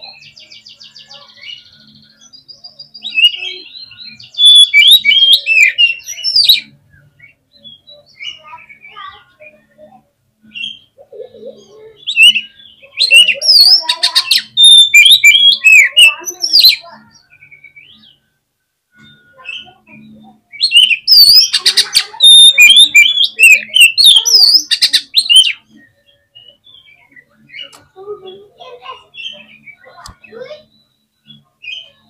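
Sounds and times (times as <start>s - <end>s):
songbird whistles and trills: 0.0s - 9.8s, 10.4s - 32.0s.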